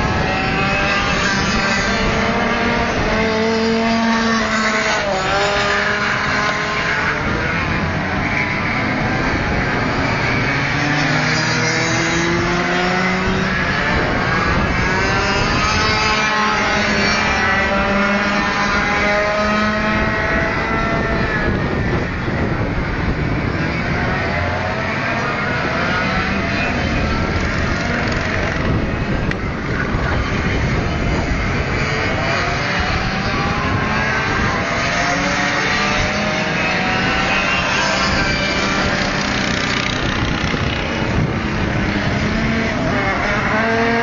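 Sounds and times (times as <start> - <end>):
racing kart engines whining: 0.0 - 44.0.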